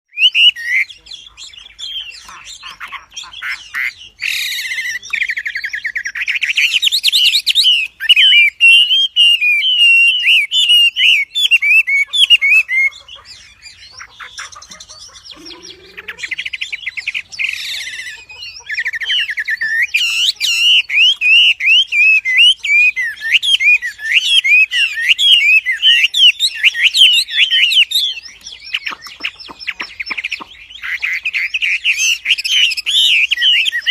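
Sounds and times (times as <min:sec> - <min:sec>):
songbird singing fast chirps: 0:00.1 - 0:33.9.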